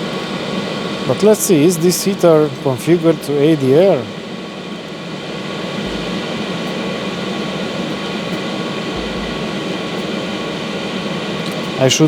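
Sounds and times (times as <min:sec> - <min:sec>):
heater blower rushing hum: 0:00.0 - 0:12.0.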